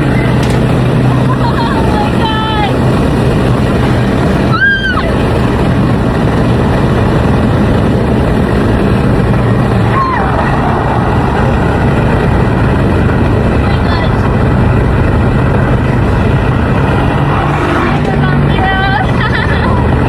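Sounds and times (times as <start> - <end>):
car engine and road noise: 0.0 - 20.0
high rising and falling tone: 0.0 - 20.0.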